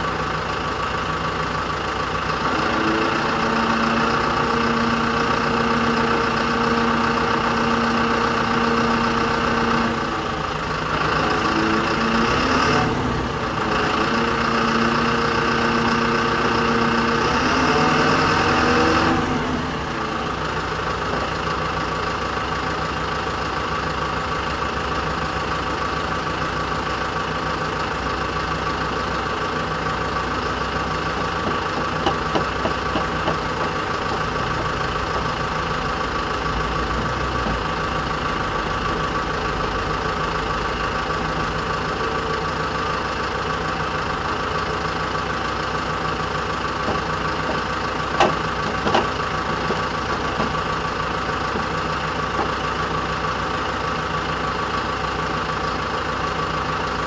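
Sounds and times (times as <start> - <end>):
forklift engine idling: 0.0 - 57.0.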